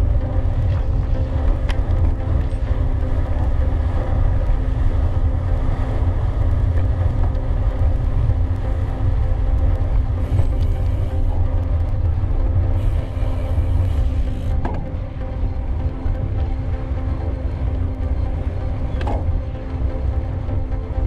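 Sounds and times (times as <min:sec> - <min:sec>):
bike tyres rolling on gravel: 0:00.0 - 0:21.0
wind rumble on microphone: 0:00.0 - 0:21.0.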